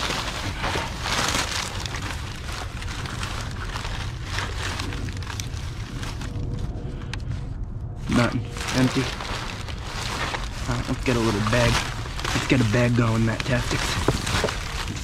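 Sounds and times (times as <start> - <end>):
plastic bags rustling: 0.0 - 7.0, 8.0 - 15.0
steady low rumble: 0.0 - 15.0.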